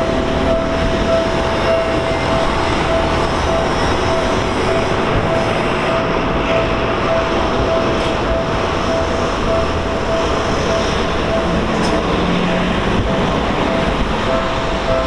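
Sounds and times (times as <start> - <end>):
electric train rumbling: 0.0 - 15.0
level crossing alarm ringing: 0.0 - 15.0.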